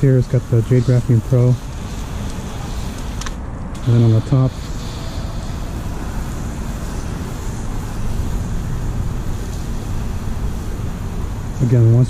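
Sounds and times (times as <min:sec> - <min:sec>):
water rushing from a hose: 0:00.0 - 0:12.0.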